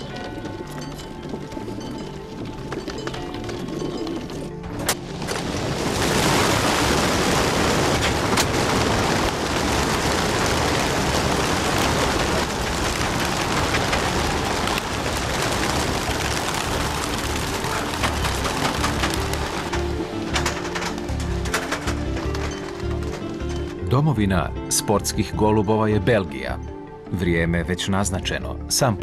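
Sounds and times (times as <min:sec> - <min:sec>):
pigeon wings flapping: 0:00.0 - 0:23.8.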